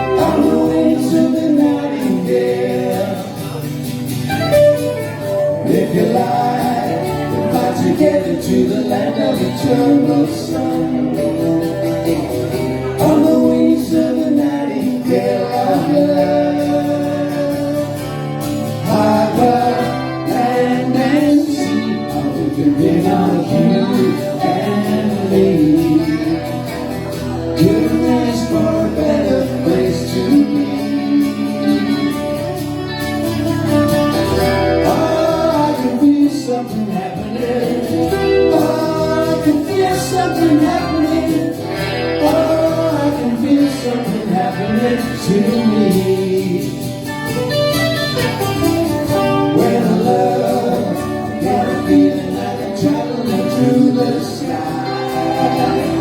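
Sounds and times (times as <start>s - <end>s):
live band playing pop song: 0.0s - 56.0s
person singing: 0.0s - 56.0s.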